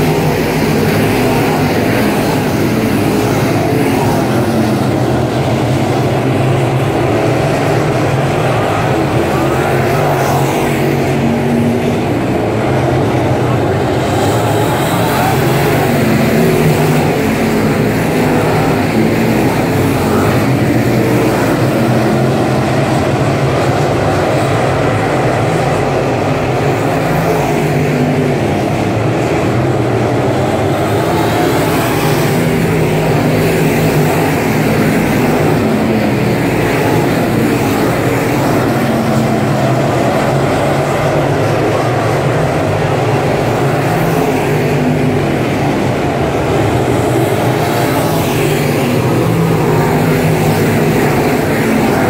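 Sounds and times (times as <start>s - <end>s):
race car engines droning: 0.0s - 52.0s.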